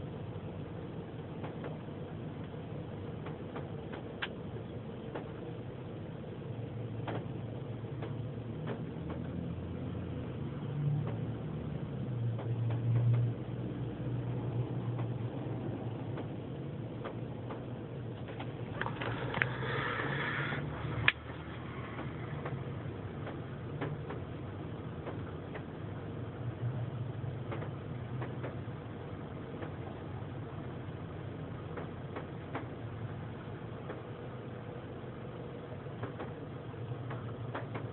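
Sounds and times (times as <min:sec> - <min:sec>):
low machine hum inside car: 0:00.0 - 0:37.9.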